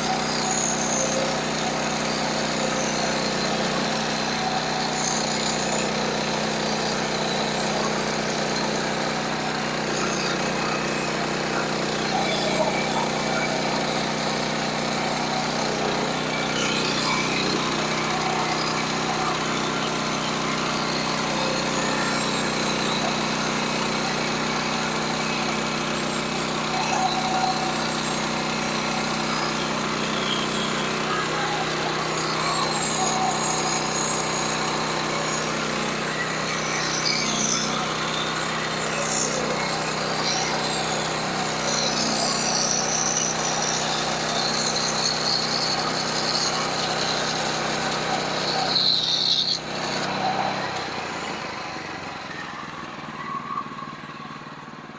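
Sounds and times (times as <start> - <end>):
sawmill running: 0.0 - 54.9.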